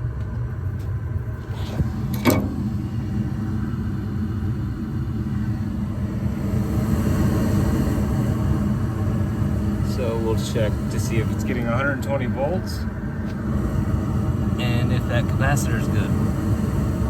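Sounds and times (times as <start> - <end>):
gas furnace burner rumble: 0.0 - 17.0.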